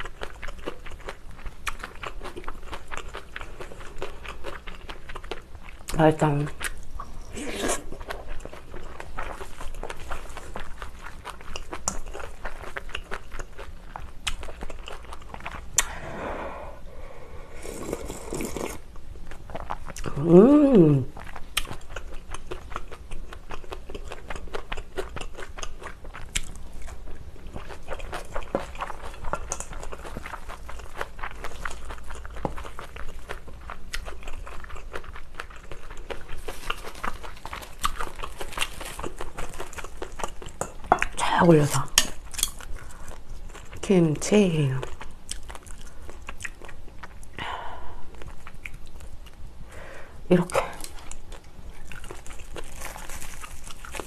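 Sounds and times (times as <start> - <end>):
wet chewing and crunching: 0.0 - 16.0, 17.6 - 49.6, 50.3 - 54.0.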